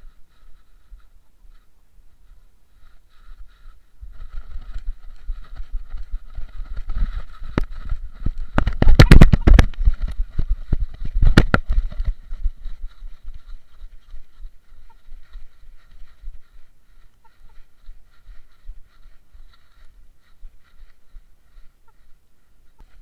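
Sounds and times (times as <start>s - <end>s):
camera rubbing and knocking: 0.0s - 23.0s.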